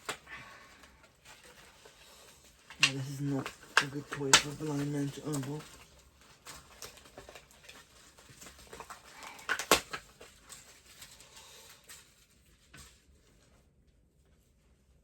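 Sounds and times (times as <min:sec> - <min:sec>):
toy packaging rustling: 0:00.0 - 0:13.4.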